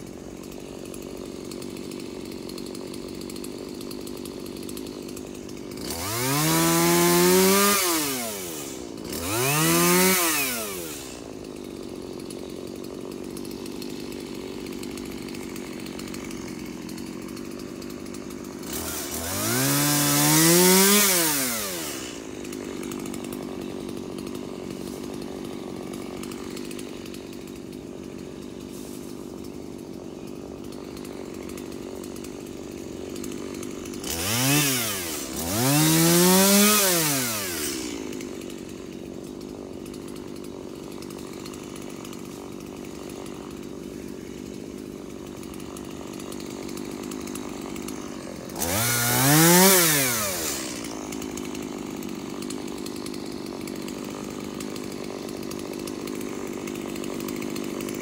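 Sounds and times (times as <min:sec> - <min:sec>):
chainsaw idling: 0:00.0 - 0:58.0
chainsaw revving: 0:00.0 - 0:58.0.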